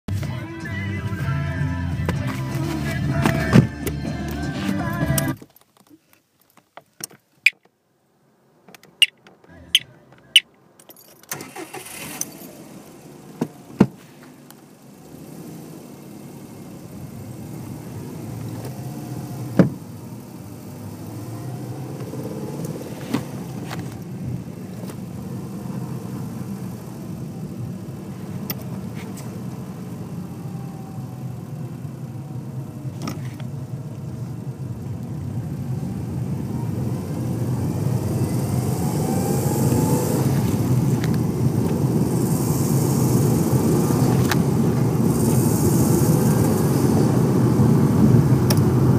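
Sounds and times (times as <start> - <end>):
car engine drone accelerating: 0.1 - 5.4, 9.0 - 48.9.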